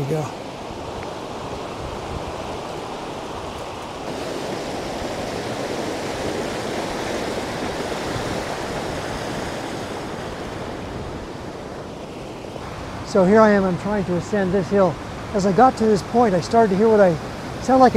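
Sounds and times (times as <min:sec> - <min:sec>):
creek rushing over rocks: 0:00.0 - 0:12.0, 0:12.6 - 0:17.9.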